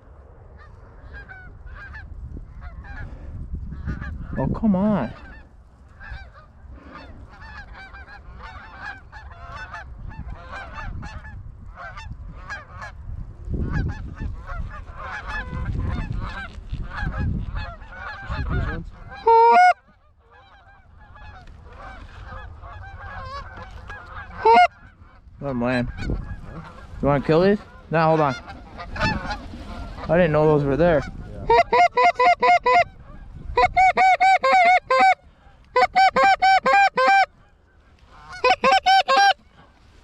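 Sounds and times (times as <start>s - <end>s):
wind gusts on microphone: 0.0s - 19.3s, 20.3s - 37.5s
geese honking: 0.6s - 3.1s, 3.8s - 13.0s, 13.6s - 39.7s.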